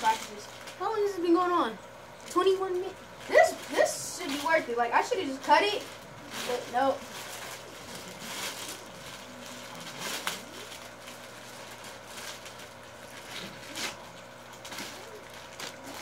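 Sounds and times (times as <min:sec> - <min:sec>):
plastic bags crinkling: 0:00.0 - 0:01.5, 0:02.1 - 0:16.0.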